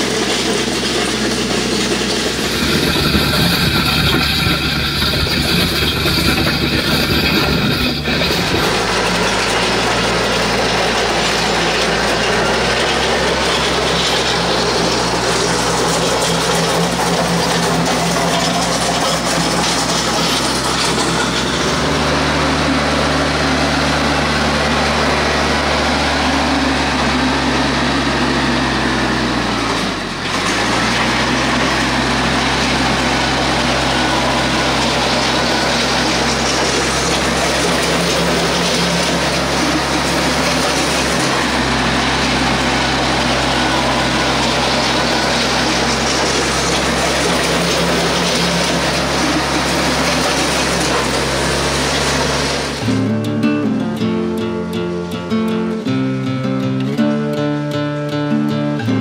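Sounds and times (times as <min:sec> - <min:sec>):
land plane dragging over gravel: 0:00.0 - 0:53.0
tractor diesel engine under load: 0:00.0 - 0:59.0.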